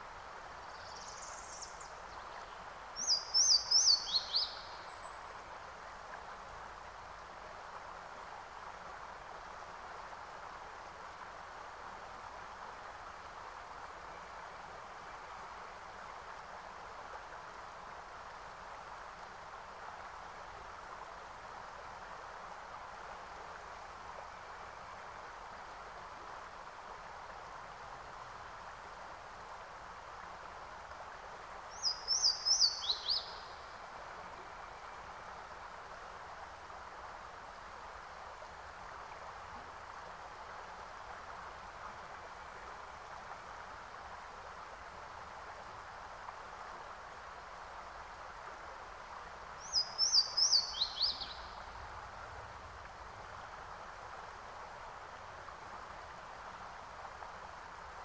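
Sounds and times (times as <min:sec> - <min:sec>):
flowing stream rushing: 0:00.0 - 0:58.0.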